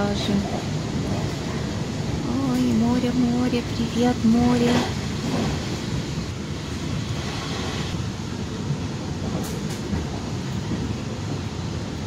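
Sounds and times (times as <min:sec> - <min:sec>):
train carriage running noise: 0:00.0 - 0:12.0.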